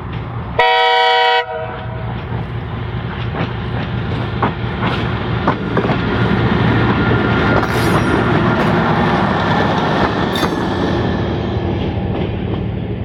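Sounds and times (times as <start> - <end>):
diesel railcar engine drone: 0.0 - 13.0
wheels clicking over rail joints: 1.7 - 13.0.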